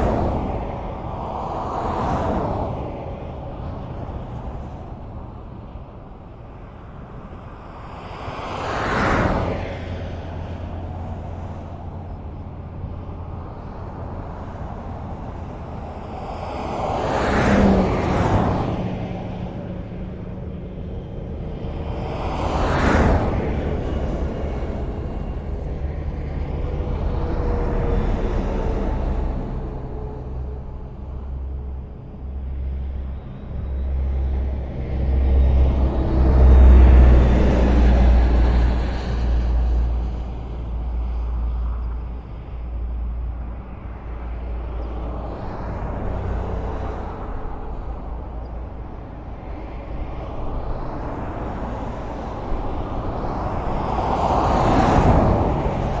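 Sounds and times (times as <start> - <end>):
highway traffic rumble: 0.0 - 56.0
vehicle passing close by: 8.0 - 56.0.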